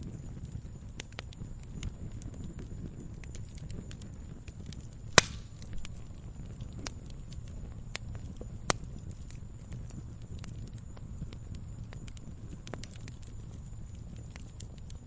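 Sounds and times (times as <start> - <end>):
low rumble of flames: 0.0 - 15.0
wood fire popping and snapping: 0.0 - 15.0.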